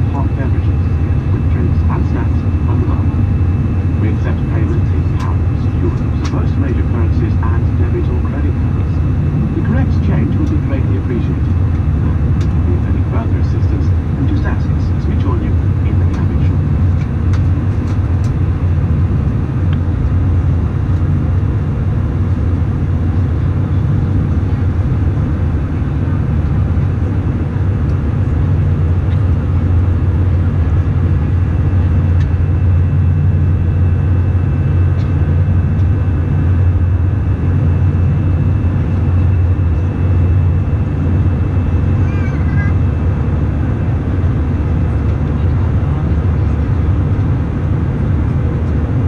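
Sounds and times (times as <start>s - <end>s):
jet engine cabin drone: 0.0s - 49.0s.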